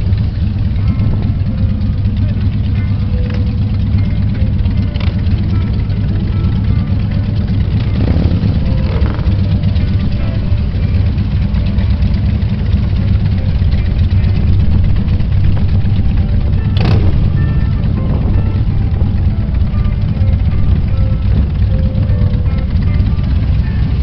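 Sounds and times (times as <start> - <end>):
motorcycle engines rumbling: 0.0 - 24.0.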